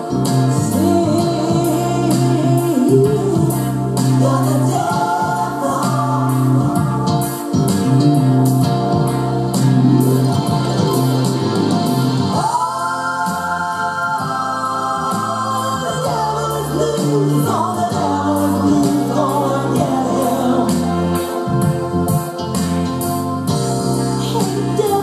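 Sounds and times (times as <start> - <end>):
pop song on home stereo: 0.0 - 25.0.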